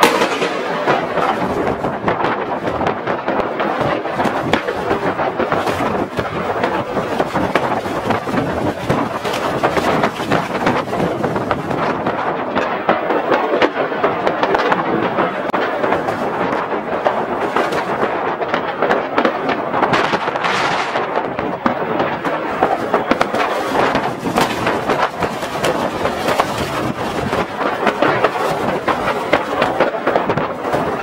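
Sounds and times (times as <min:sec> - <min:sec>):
firecrackers crackling: 0:00.0 - 0:31.0
fireworks bangs: 0:00.0 - 0:31.0.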